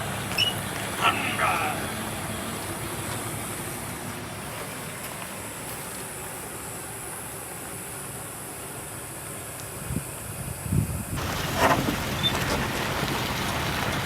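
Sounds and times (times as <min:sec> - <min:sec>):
vehicle running on road: 0:00.0 - 0:08.4, 0:11.2 - 0:14.0.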